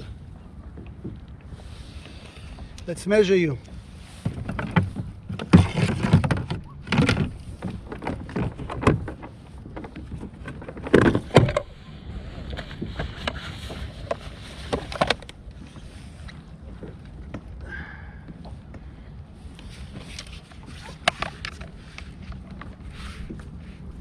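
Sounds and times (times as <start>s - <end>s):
knocks and rattles on plastic kayak: 0.0s - 2.8s, 3.6s - 24.0s.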